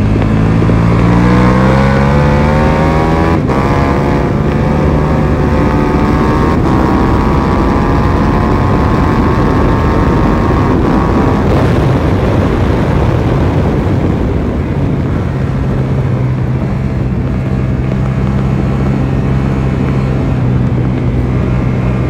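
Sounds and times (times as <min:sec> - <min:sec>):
motorcycle engine accelerating hard: 0:00.0 - 0:22.0
wind rush on microphone: 0:00.0 - 0:22.0.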